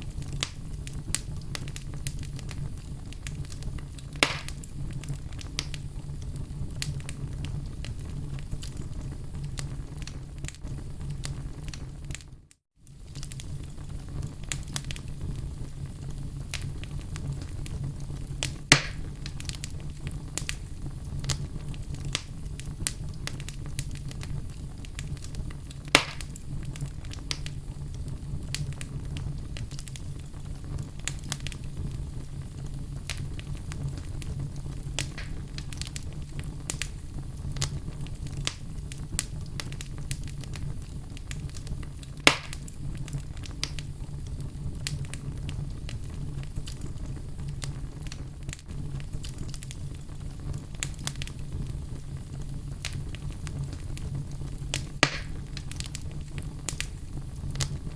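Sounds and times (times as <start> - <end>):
burning logs popping: 0.0 - 57.9
wood fire crackling: 0.0 - 57.9.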